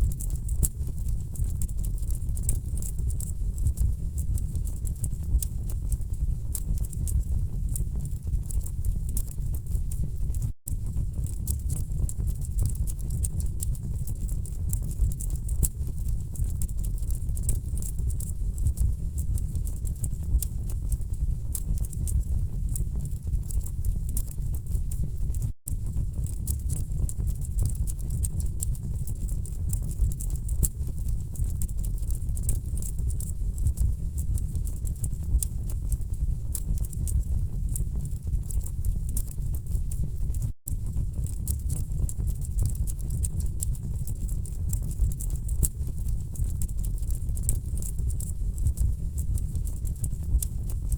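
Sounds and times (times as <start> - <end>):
low rumble of flames: 0.0 - 50.9.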